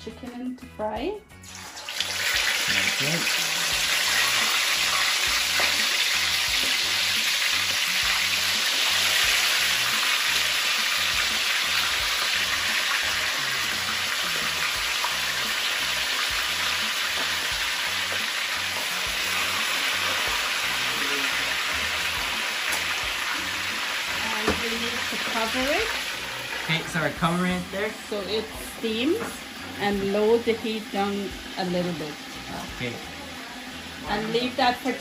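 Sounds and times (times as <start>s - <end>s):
chicken sizzling in hot oil: 1.3s - 35.0s.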